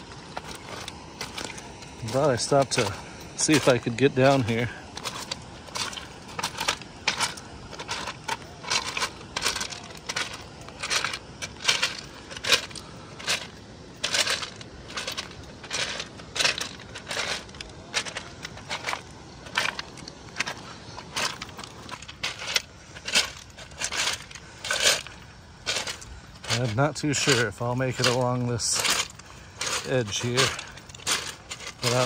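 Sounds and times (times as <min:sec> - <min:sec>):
footsteps crunching on gravel: 0:00.0 - 0:32.0.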